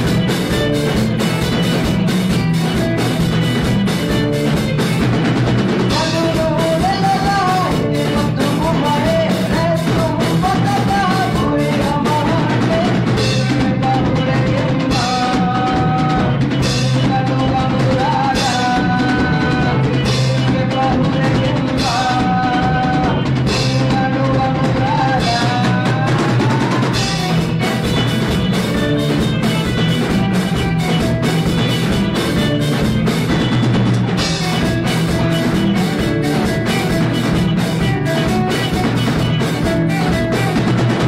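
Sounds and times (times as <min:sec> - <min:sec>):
band playing a song: 0:00.0 - 0:41.0
drum kit beat: 0:00.0 - 0:41.0.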